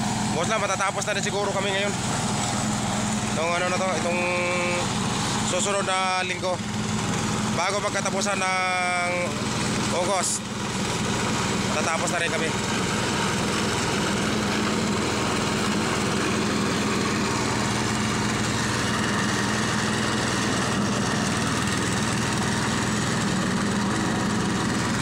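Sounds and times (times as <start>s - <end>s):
roller engine running: 0.0s - 25.0s.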